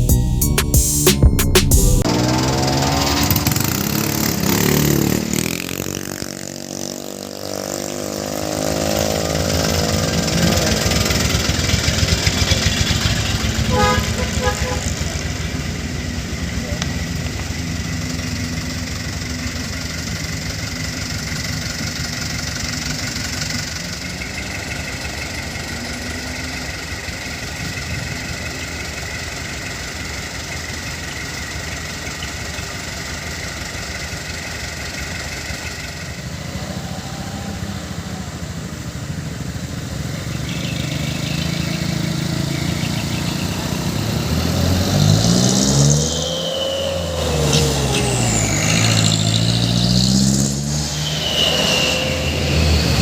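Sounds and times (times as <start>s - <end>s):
truck engine idling and revving: 0.0s - 53.0s.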